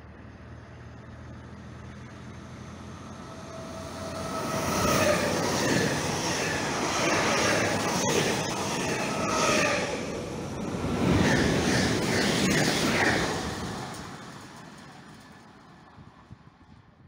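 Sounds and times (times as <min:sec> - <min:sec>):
train wheels on rails: 0:02.8 - 0:16.8.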